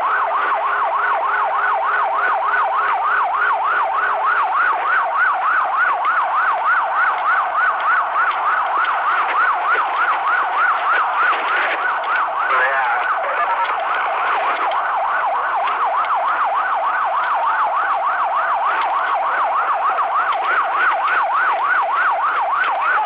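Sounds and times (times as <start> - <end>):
police siren yelping: 0.0 - 23.0.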